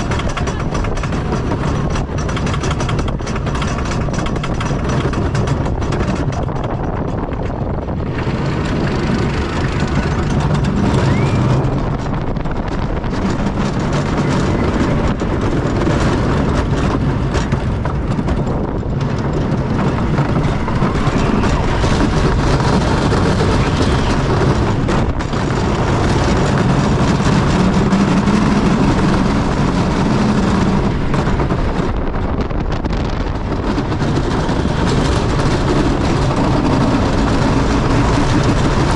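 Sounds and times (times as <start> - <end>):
roller coaster clattering on track: 0.0 - 38.9.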